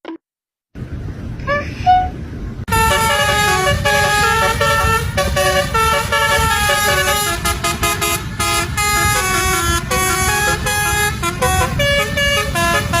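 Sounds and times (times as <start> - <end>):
steady low rumble: 0.8 - 13.0
multi-tone bus horn tune: 1.5 - 13.0.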